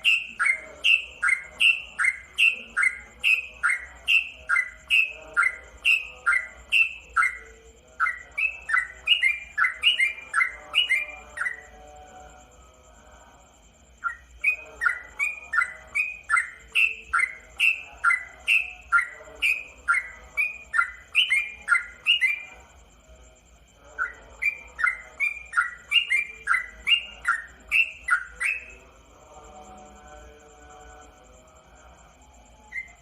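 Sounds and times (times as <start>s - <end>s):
bird singing whistled notes: 0.0s - 11.9s, 14.0s - 22.7s, 23.8s - 29.7s, 32.4s - 33.0s.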